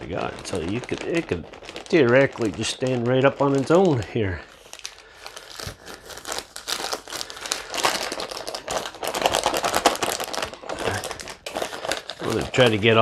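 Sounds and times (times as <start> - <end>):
drink pouch crinkling: 0.0 - 13.0.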